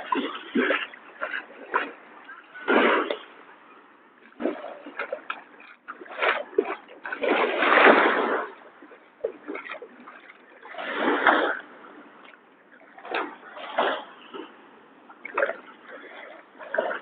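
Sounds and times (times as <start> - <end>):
small waves splashing at shore: 0.0 - 17.0.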